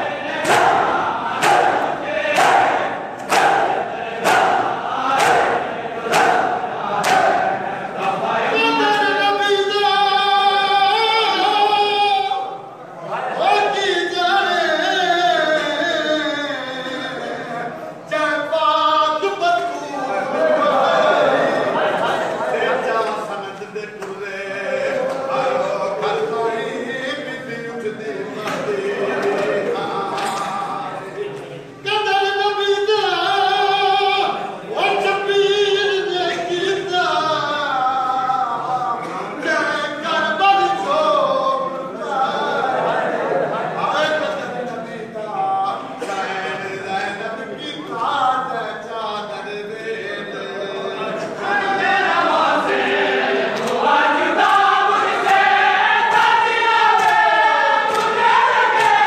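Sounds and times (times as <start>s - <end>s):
men singing a lament: 0.0s - 59.0s.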